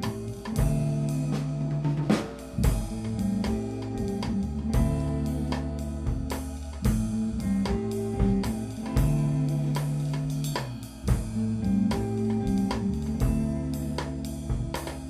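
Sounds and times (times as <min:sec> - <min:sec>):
bass guitar notes: 0:00.0 - 0:15.0
drum kit hits: 0:00.0 - 0:15.0
electric guitar: 0:00.0 - 0:15.0.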